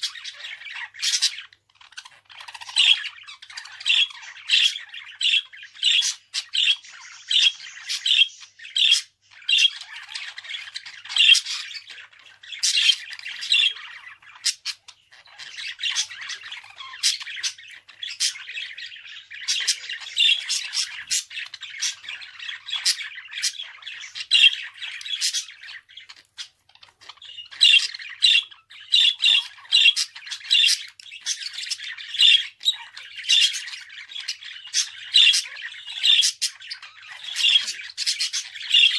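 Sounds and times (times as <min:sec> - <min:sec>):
budgerigar chattering: 0:00.0 - 0:38.9.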